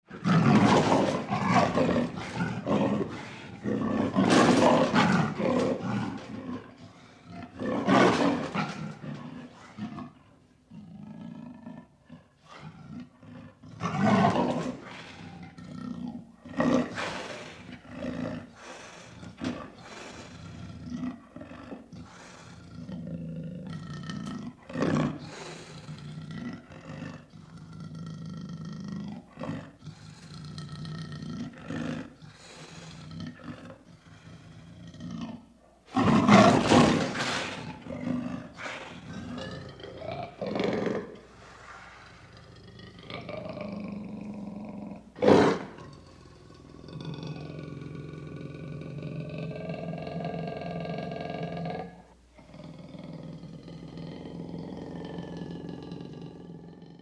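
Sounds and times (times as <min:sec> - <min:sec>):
leopard roaring: 0:00.0 - 0:57.0.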